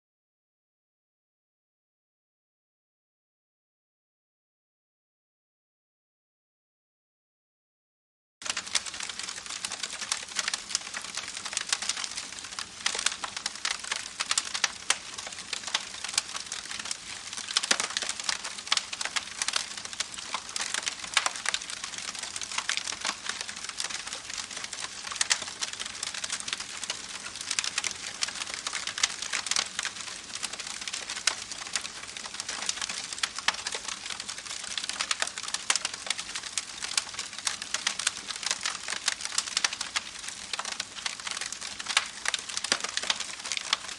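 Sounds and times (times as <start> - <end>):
campfire crackling: 8.4 - 43.9.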